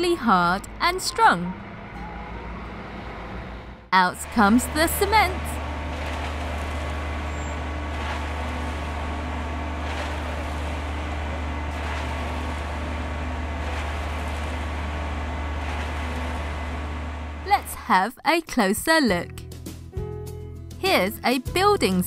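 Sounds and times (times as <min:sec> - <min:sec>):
truck engine rumbling: 0:00.0 - 0:17.8.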